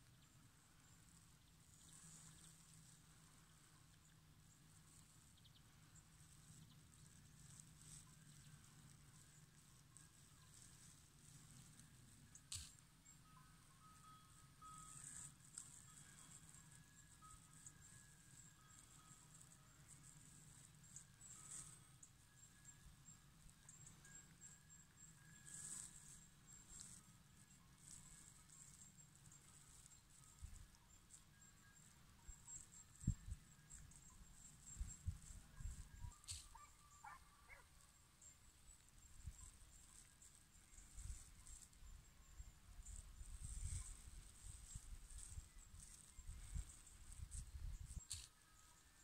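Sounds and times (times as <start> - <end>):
faint outdoor hiss: 0.0 - 49.0
high-pitched insect chirping: 4.8 - 49.0.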